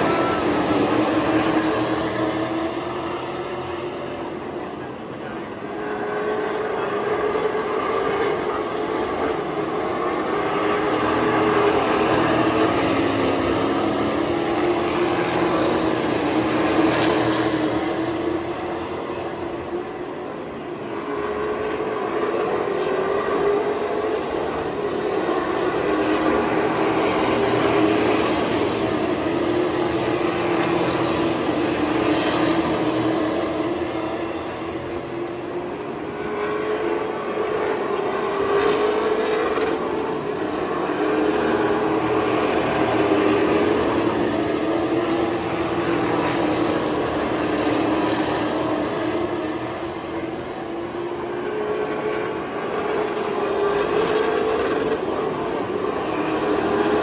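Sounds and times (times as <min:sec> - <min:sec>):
race car engines: 0:00.0 - 0:57.0.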